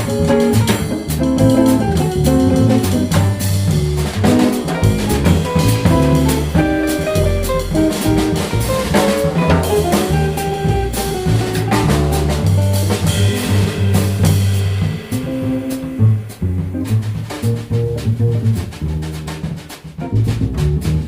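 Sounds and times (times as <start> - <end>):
lead instrument melody: 0.0 - 18.3
bass playing low notes: 0.0 - 21.0
drum kit with cymbals and snare: 0.0 - 21.0.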